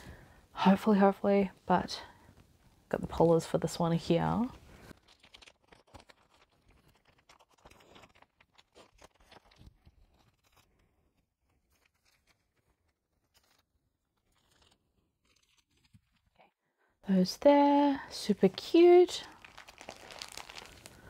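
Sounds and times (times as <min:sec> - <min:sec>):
rustling of plastic sleeves: 0:02.3 - 0:21.0.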